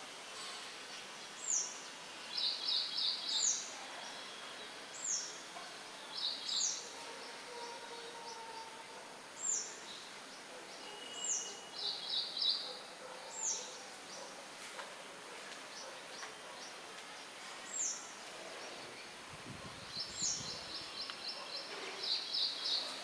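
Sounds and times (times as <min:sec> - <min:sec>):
wind in trees: 0:00.0 - 0:23.0.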